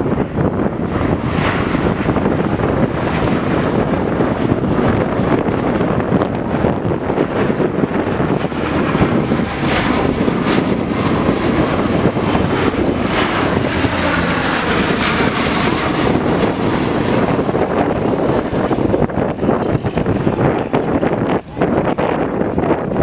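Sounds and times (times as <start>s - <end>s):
propeller aircraft droning overhead: 0.0s - 23.0s.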